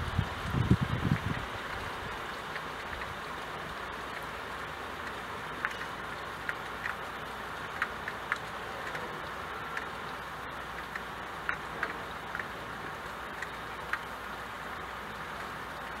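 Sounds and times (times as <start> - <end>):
rain on a window: 0.0 - 16.0
drips ticking: 0.2 - 16.0.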